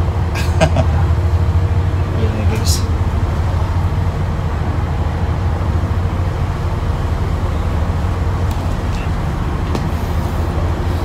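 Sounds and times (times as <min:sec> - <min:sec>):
ferry engine drone: 0:00.0 - 0:11.0
wind blowing: 0:00.0 - 0:11.0.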